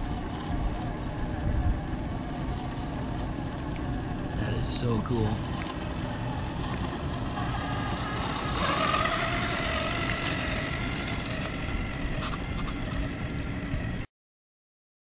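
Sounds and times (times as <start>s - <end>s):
steady mechanical noise: 0.0s - 14.1s
toy truck motor whine: 0.0s - 14.1s.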